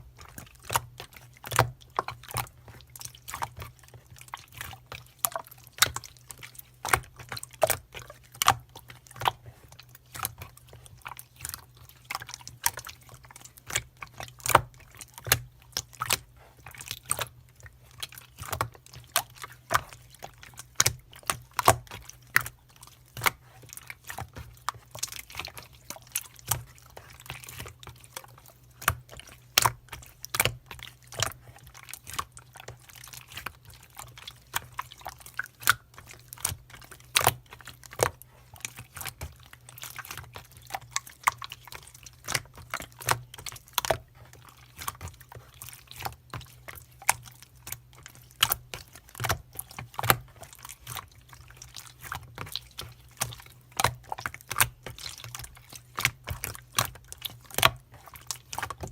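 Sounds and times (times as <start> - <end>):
sharp clicks and wet crackles: 0.0 - 58.9.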